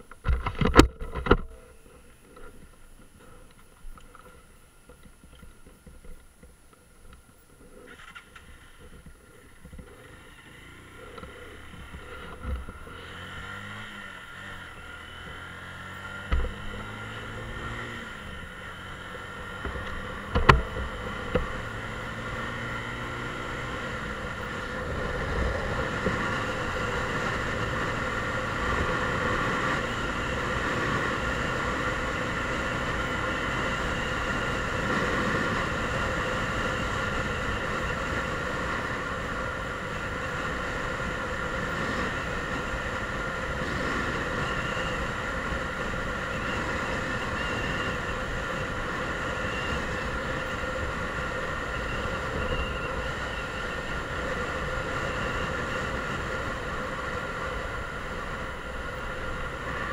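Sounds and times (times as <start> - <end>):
wind and road noise: 0.0 - 59.9
motorcycle engine accelerating: 7.8 - 59.9.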